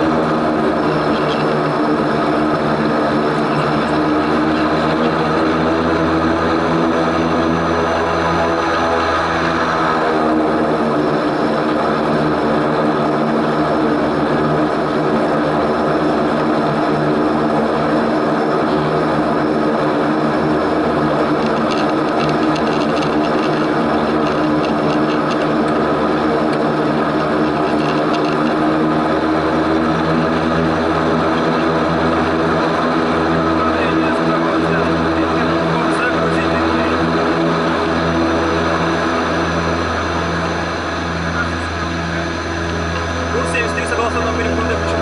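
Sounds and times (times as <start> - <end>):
turboprop engines droning: 0.0 - 45.0.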